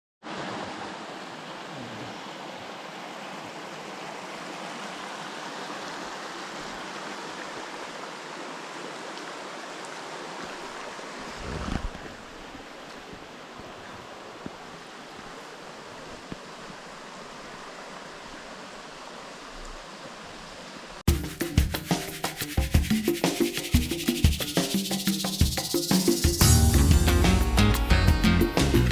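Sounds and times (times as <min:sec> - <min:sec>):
flowing water rushing: 0:00.2 - 0:27.6.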